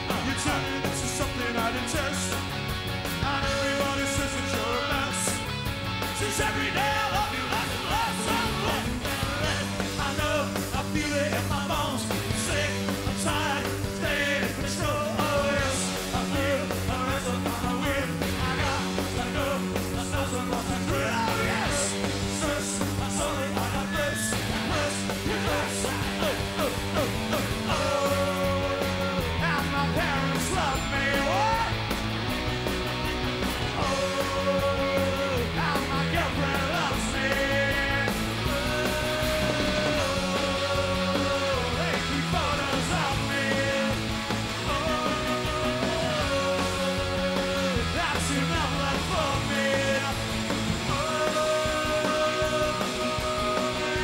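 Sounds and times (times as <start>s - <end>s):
man singing lead vocal: 0.0s - 2.5s, 3.1s - 32.0s, 33.6s - 54.0s
live rock band playing: 0.0s - 54.0s.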